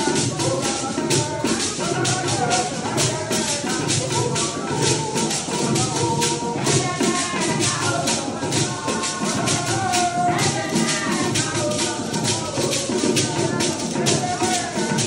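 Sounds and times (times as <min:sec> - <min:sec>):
gourd rattles shaken rhythmically: 0:00.0 - 0:15.0
voices singing: 0:00.0 - 0:15.0.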